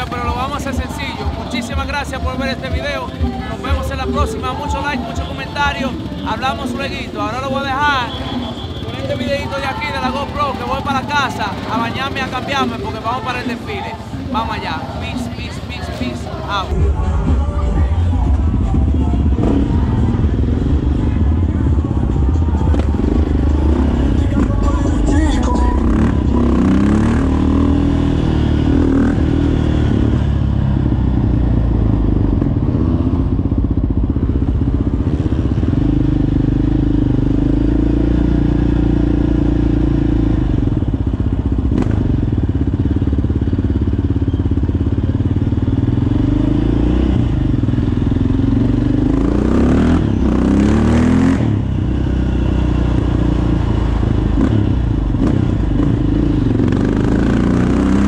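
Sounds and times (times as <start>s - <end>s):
quad engine revving while ridden: 0.0s - 58.0s.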